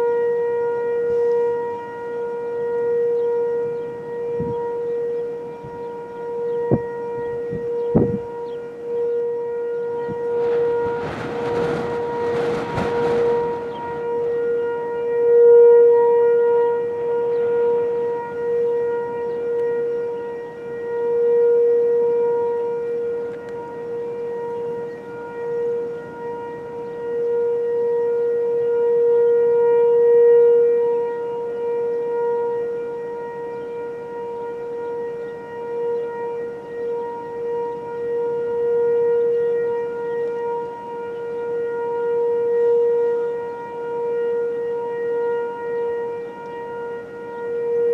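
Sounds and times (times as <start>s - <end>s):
warning siren wailing: 0.0s - 47.9s.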